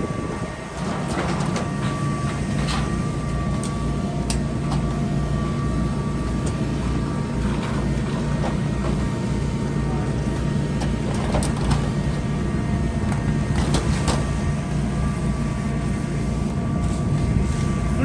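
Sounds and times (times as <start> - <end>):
engine humming: 0.0 - 18.0
high whine: 0.0 - 18.0.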